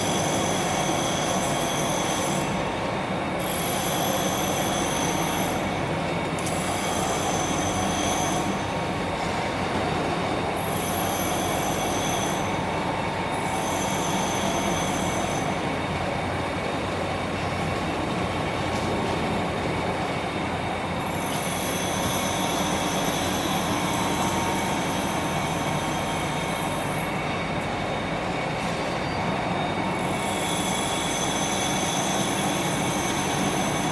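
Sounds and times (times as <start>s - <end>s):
lathe gear train running: 0.0s - 33.9s.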